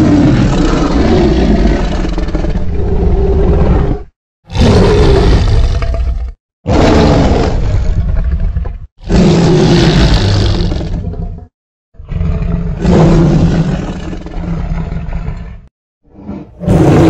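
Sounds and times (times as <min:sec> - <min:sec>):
deep dinosaur roars: 0:00.0 - 0:17.0.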